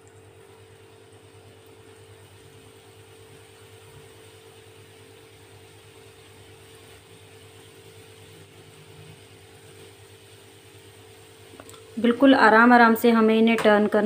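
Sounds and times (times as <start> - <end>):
batter sizzling in hot oil: 0.0 - 14.0
constant mechanical hum: 0.0 - 14.0.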